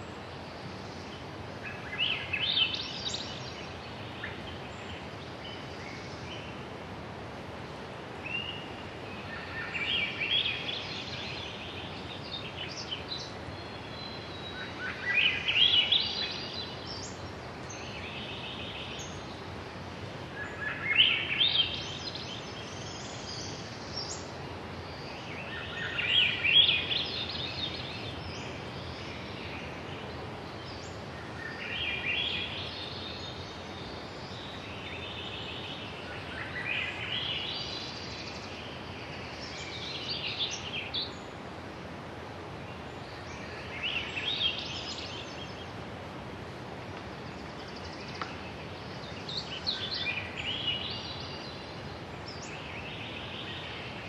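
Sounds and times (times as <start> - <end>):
songbird singing: 0.0 - 54.0
woodland background hiss: 0.0 - 54.0.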